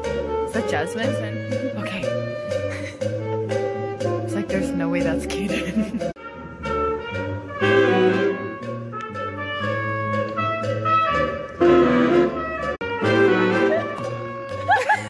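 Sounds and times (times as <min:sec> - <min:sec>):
jazz band with saxophones and brass: 0:00.0 - 0:15.0.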